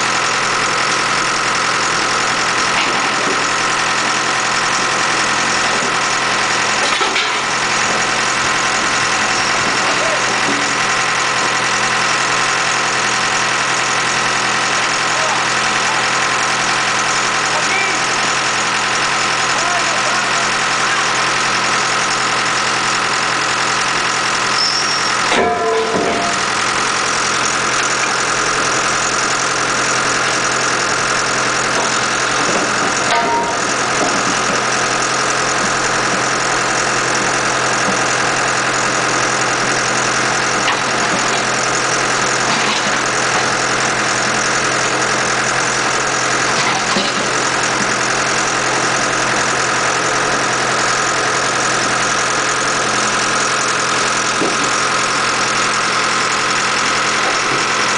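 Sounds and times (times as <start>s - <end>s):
engine running under load: 0.0s - 57.9s.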